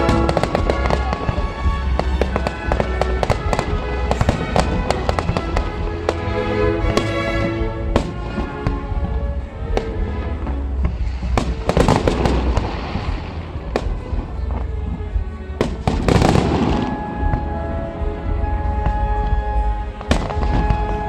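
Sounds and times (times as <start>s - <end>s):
fireworks bangs: 0.0s - 21.0s
fireworks crackling: 0.0s - 21.0s
music: 0.0s - 21.0s.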